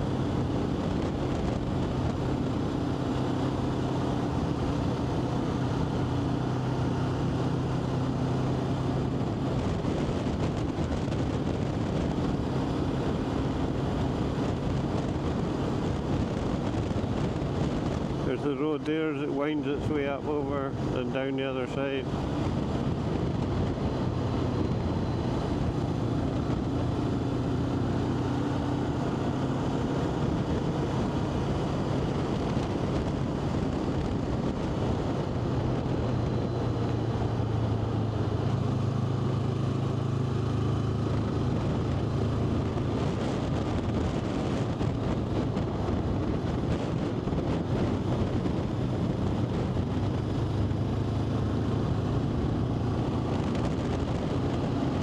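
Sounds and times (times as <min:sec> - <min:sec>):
vehicle engine running: 0:00.0 - 0:55.0
wind noise on microphone: 0:00.0 - 0:55.0.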